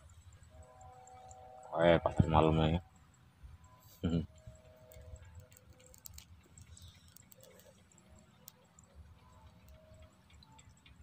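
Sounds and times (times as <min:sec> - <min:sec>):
small ticks: 0:00.0 - 0:02.2, 0:02.8 - 0:11.0.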